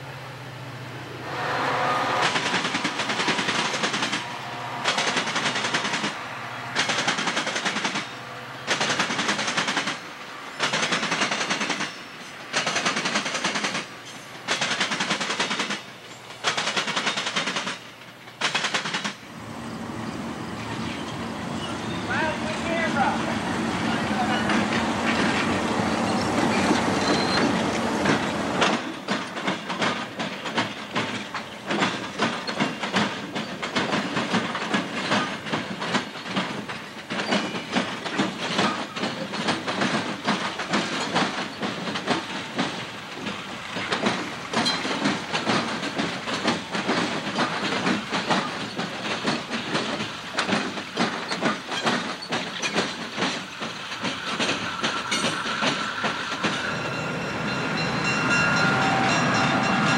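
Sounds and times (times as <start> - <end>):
diesel locomotive engine rumble: 0.0 - 59.9
wheels clacking over rail joints: 2.2 - 59.9.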